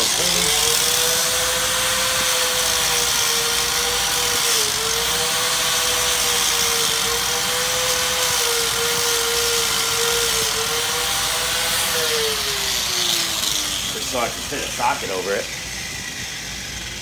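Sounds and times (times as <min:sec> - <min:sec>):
rotary power tool hissing: 0:00.0 - 0:17.0.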